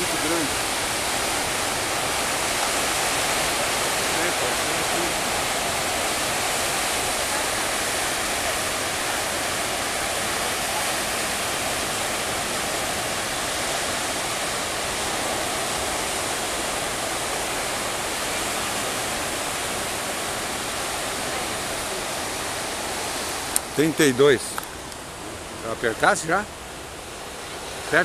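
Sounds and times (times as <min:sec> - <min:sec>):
surf breaking over rocks: 0:00.0 - 0:28.0.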